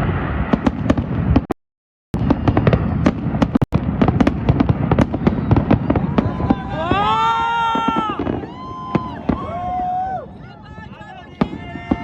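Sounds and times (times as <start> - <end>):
fireworks cracking and popping: 0.0 - 1.6, 2.2 - 12.0.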